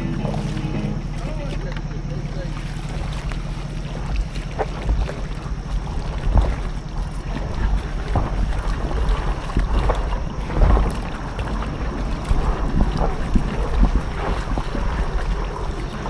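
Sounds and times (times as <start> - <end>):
water noise: 0.0 - 16.0
wind rumbling on microphone: 0.0 - 16.0.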